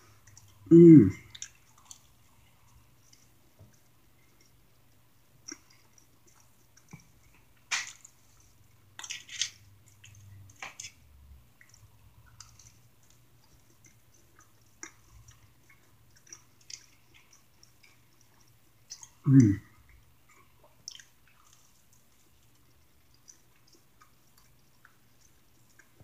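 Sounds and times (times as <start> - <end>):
chewing and wet mouth sounds: 0.0 - 26.0.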